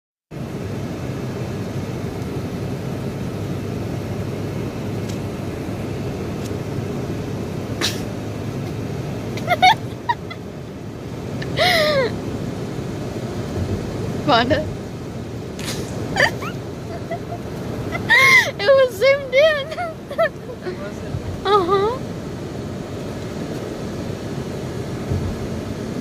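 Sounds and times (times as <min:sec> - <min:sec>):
road and engine noise: 0:00.3 - 0:26.0.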